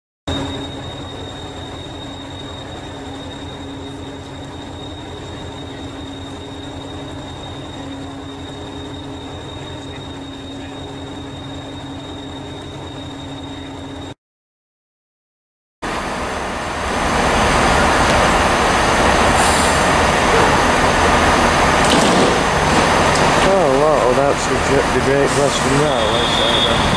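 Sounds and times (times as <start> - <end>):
diesel train engine idling: 0.3 - 14.1, 15.8 - 26.9
thin high whine: 0.3 - 14.2, 15.9 - 26.9.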